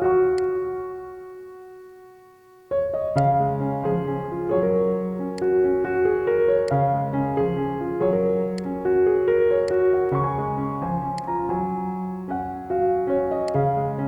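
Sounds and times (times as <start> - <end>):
instrumental background music: 1.1 - 14.0.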